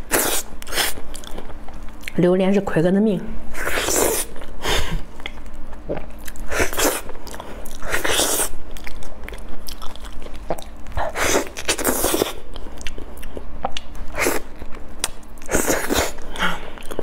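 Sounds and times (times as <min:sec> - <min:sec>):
person biting and chewing fruit: 0:00.0 - 0:02.2, 0:03.6 - 0:17.0.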